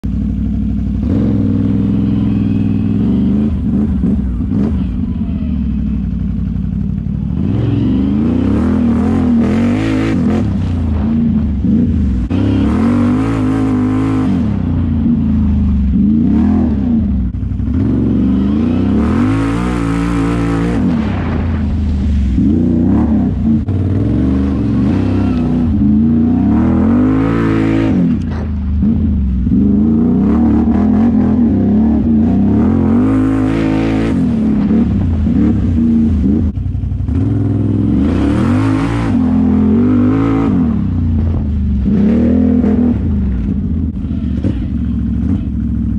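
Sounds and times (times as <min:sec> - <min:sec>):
atv engine revving: 0:00.0 - 0:45.9.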